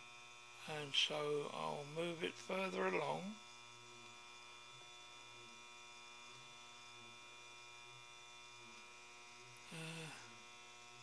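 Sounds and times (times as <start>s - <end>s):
faint electric motor hum: 0.0s - 11.0s.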